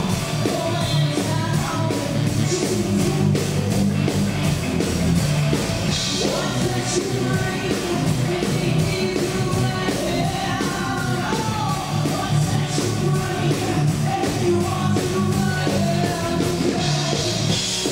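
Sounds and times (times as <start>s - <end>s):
woman singing: 0.0s - 3.4s, 6.0s - 17.5s
live band playing: 0.0s - 17.9s.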